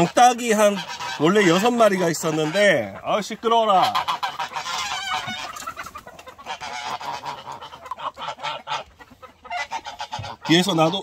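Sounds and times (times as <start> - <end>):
poultry squawking and honking: 0.0 - 11.0.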